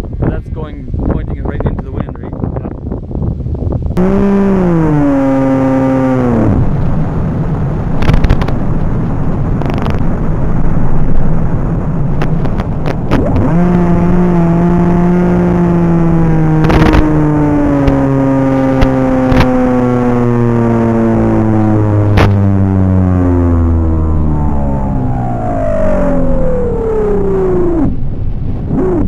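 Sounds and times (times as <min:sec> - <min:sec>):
wind rushing: 0:00.0 - 0:20.5, 0:21.1 - 0:29.0
model aircraft propeller droning: 0:04.0 - 0:29.0.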